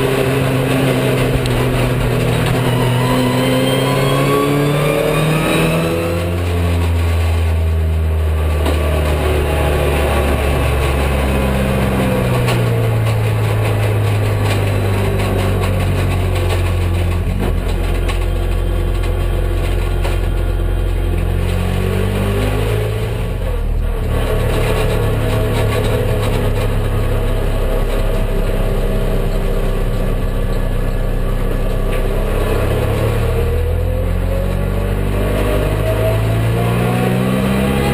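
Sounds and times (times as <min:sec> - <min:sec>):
car engine running and revving: 0:00.0 - 0:37.9.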